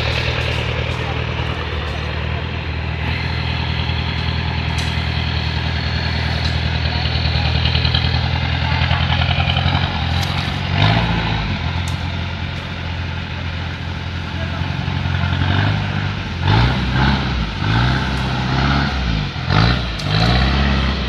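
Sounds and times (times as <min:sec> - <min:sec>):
vehicle engine running and revving: 0:00.0 - 0:21.0.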